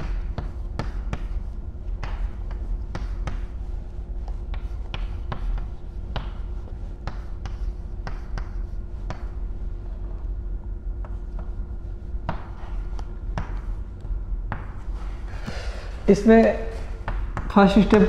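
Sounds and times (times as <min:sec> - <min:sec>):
chalk tapping on blackboard: 0:00.0 - 0:09.5, 0:11.0 - 0:14.8, 0:16.4 - 0:18.0
low hum: 0:00.0 - 0:18.0.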